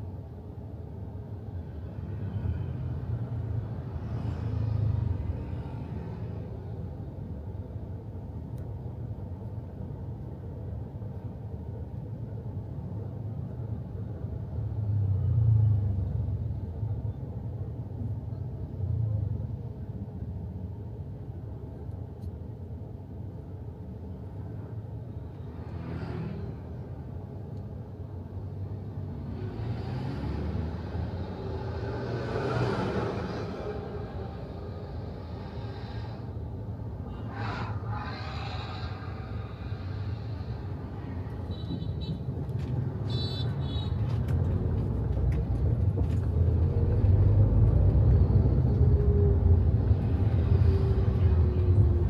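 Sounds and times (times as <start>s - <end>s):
traffic passing outside: 0.0s - 52.0s.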